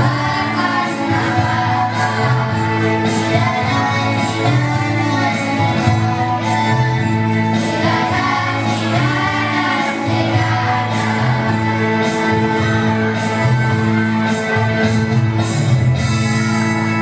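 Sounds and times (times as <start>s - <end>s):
children's choir singing: 0.0s - 15.0s
backing music with bass line: 0.0s - 17.0s.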